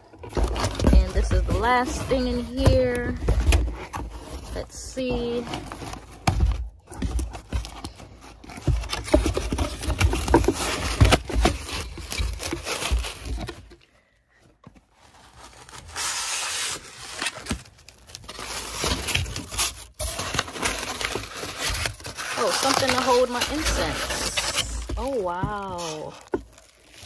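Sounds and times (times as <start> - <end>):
packaging crinkling and rustling: 0.0 - 27.0.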